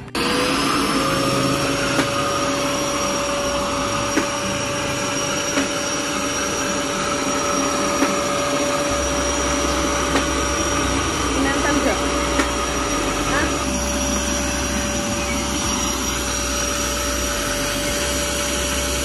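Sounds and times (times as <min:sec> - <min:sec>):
cordless vacuum running: 0:00.0 - 0:19.0.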